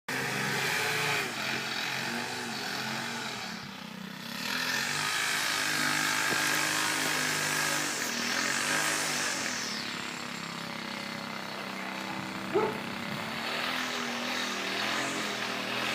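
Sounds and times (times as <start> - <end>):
small gasoline engines droning: 0.1 - 15.9.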